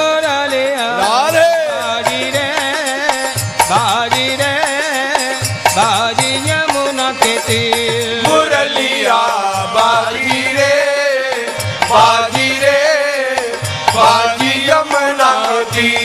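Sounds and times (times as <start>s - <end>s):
hand drum beat: 1.3s - 16.0s.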